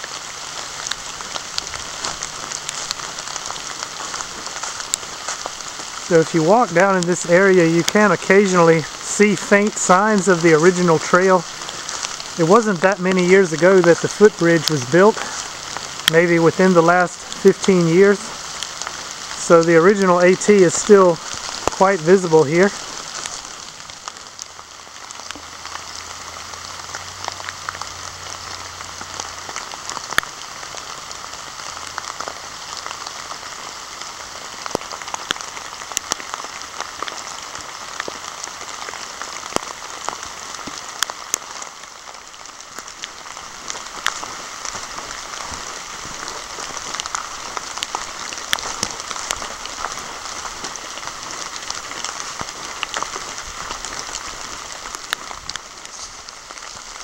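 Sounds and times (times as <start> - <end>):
raindrops tapping close by: 0.0 - 57.0
steady rain in woodland: 0.0 - 57.0.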